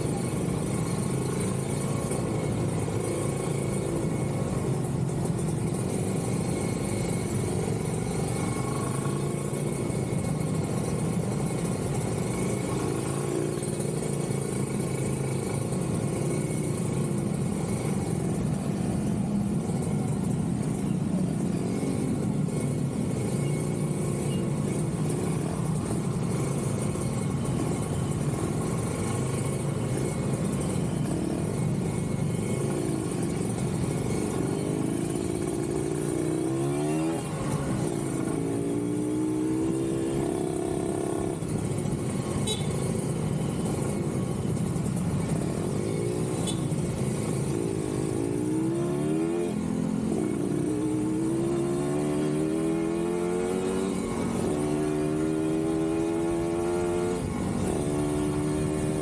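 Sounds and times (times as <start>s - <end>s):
motorcycle engine revving: 0.0s - 59.0s
surrounding traffic: 0.0s - 59.0s.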